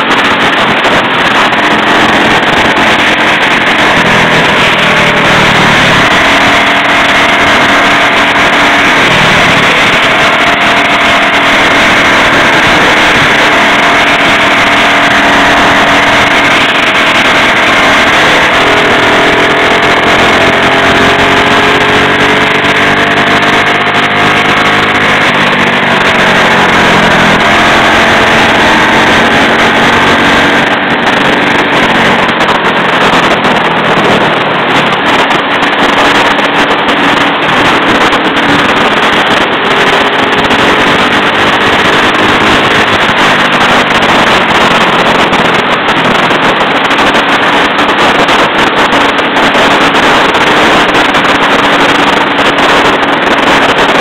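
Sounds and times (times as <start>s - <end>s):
small motorbike engine running: 0.0s - 47.4s
steady rushing noise: 0.0s - 54.0s.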